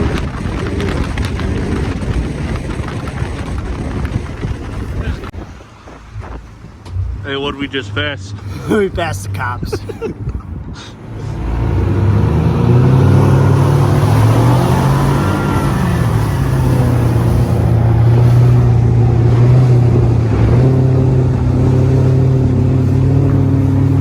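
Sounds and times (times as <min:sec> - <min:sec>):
speedboat engine at high revs: 0:00.0 - 0:24.0.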